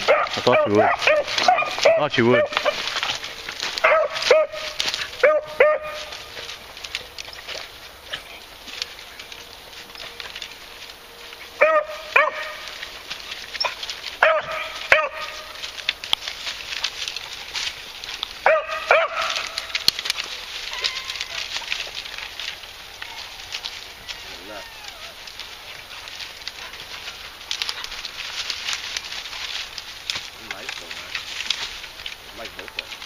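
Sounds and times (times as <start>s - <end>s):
dogs barking: 0.0s - 8.8s, 9.4s - 29.9s
twigs crackling and snapping: 0.0s - 33.0s.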